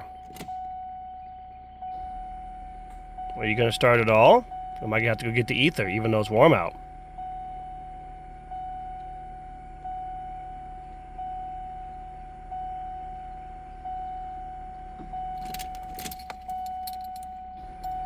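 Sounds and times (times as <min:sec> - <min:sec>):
car warning chime: 0:00.0 - 0:18.0.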